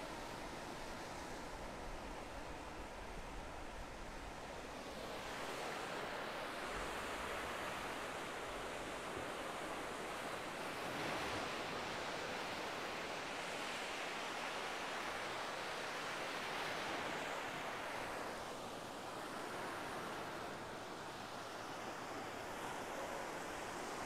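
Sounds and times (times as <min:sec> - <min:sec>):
small waves breaking on shore: 0:00.0 - 0:24.0.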